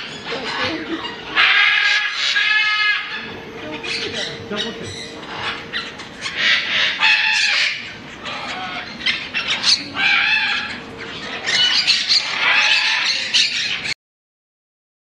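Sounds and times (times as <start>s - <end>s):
macaws calling: 0.0s - 14.0s.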